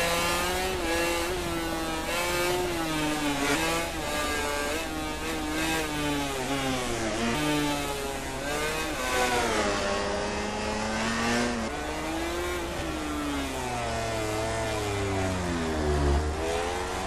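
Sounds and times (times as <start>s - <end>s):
racing motorcycles revving: 0.0s - 17.0s.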